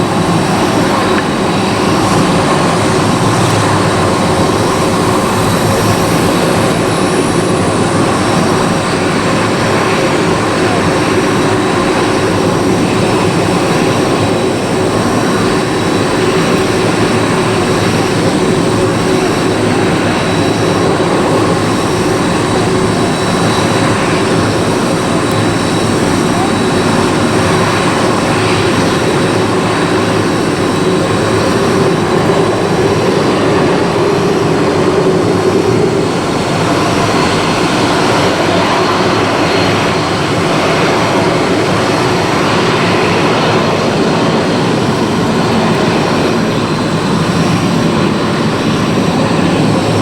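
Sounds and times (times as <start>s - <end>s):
jet engines with high whine: 0.0s - 50.0s.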